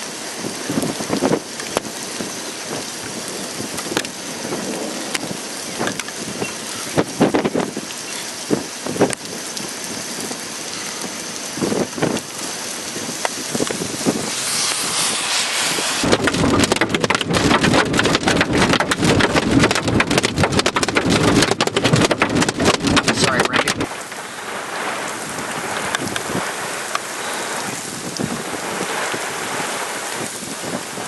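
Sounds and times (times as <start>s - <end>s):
raindrops rattling on a surface: 0.0s - 14.2s, 16.1s - 31.0s
heavy rain hissing: 0.0s - 31.0s.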